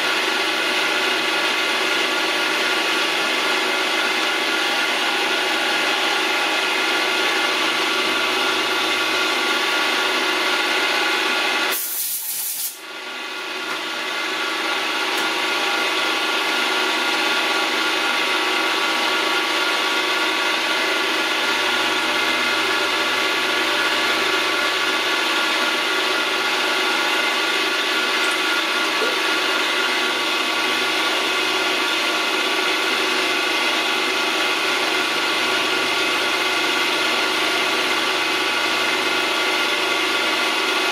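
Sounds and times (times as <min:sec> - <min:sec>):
milling machine hum and whine: 0:00.0 - 0:11.7, 0:12.8 - 0:40.9.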